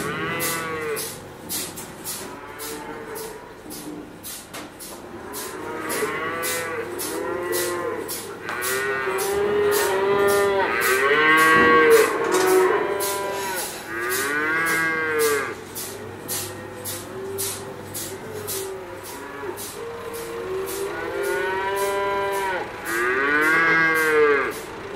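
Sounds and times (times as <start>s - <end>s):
cows mooing: 0.0s - 1.2s, 2.0s - 4.1s, 5.0s - 24.9s.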